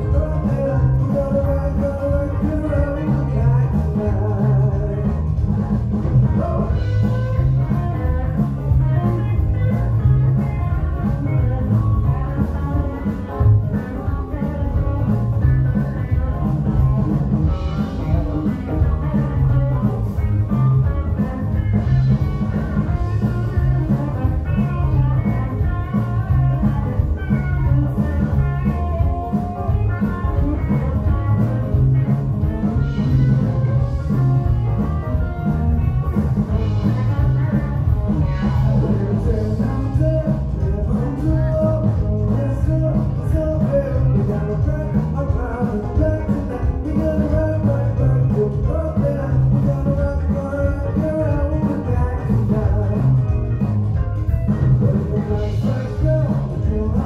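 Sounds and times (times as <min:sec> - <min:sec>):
bass guitar: 0:00.0 - 0:57.0
drum kit: 0:00.0 - 0:57.0
electric guitar: 0:00.0 - 0:57.0
keyboards: 0:00.0 - 0:57.0.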